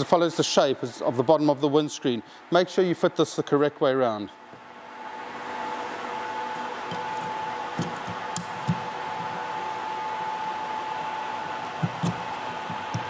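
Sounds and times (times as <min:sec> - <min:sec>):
steady whirring hum: 0:00.0 - 0:13.0.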